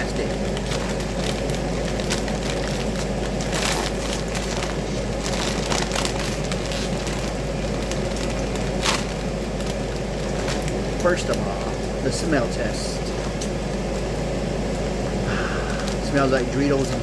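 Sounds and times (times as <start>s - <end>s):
plastic chip bag crinkling: 0.0s - 14.0s, 15.5s - 17.0s.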